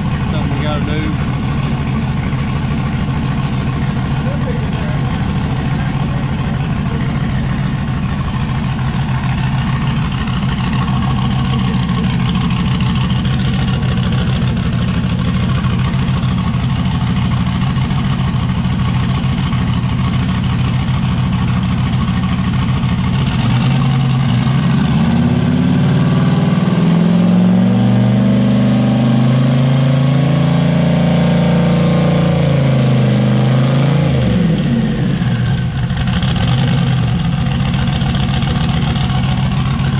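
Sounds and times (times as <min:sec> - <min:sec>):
pickup engine idling and revving: 0:00.0 - 0:39.9.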